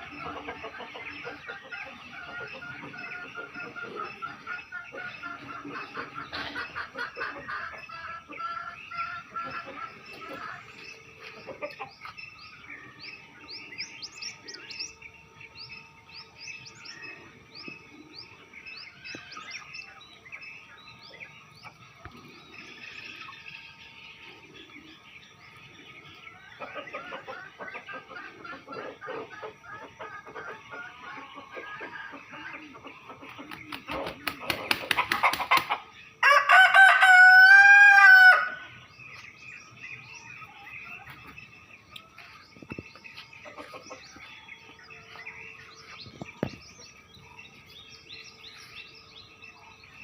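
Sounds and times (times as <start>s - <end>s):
bird clucking calls: 0.0s - 15.0s, 16.4s - 36.9s, 38.0s - 48.8s
birds chirping: 0.0s - 50.0s.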